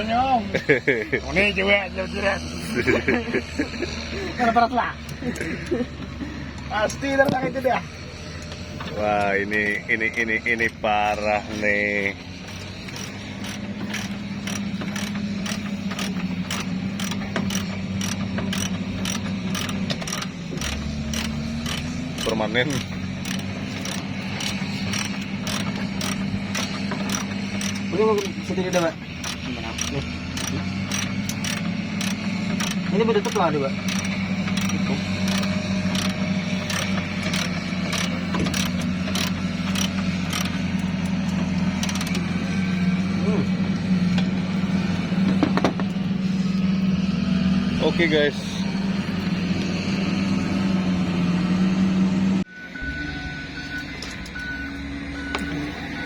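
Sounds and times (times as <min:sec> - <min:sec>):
regular mechanical clicking: 0:00.0 - 0:51.3, 0:53.5 - 0:56.0
steady low hum: 0:00.0 - 0:56.0.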